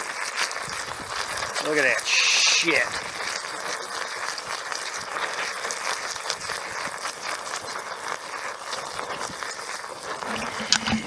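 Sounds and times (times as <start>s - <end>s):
furnace rushing hiss with crackles: 0.0s - 11.0s.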